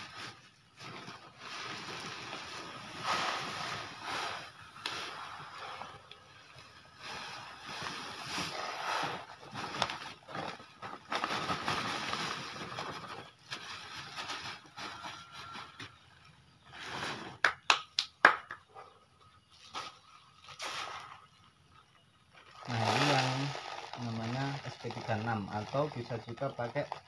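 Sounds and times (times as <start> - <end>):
fertilizer pellets pouring: 0.0 - 15.4, 19.8 - 21.7, 22.4 - 27.0.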